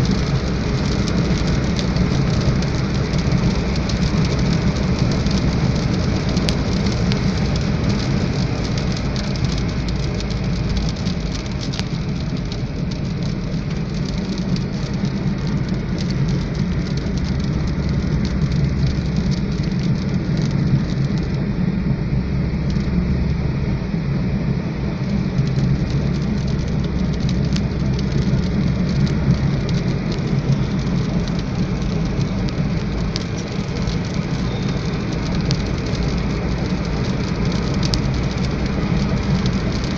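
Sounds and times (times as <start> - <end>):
engine and road rumble: 0.0 - 39.9
rain drops ticking on car: 0.0 - 39.9.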